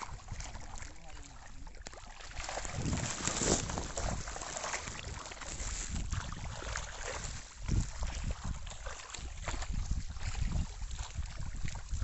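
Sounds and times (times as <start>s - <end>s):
fish splashing at water surface: 0.0s - 11.9s.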